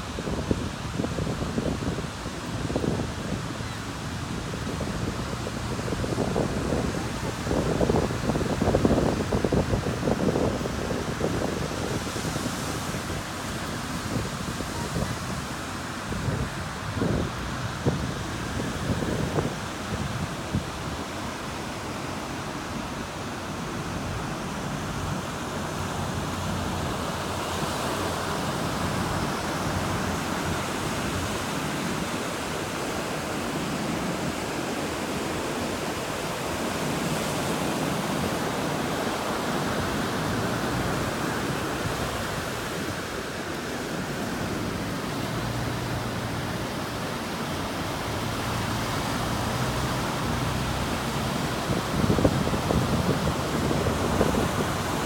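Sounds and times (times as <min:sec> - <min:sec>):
ocean surf breaking on sand: 0:00.0 - 0:55.0.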